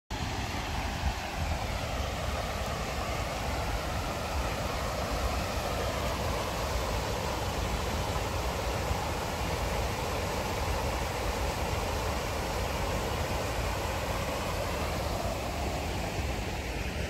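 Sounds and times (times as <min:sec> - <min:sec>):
water rushing over rocks: 0:00.1 - 0:17.0.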